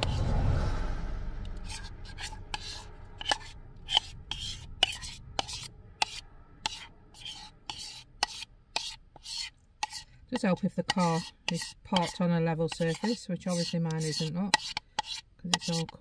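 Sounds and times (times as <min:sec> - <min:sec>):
spoon scraping batter from bowl: 0:01.6 - 0:16.0.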